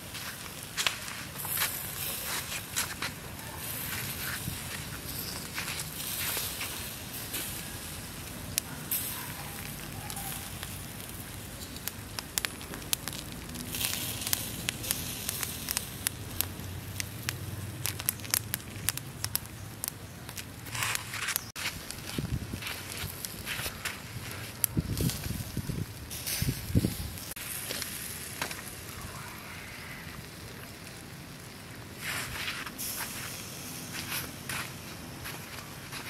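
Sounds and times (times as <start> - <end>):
charcoal crackling and popping: 0.0 - 36.0.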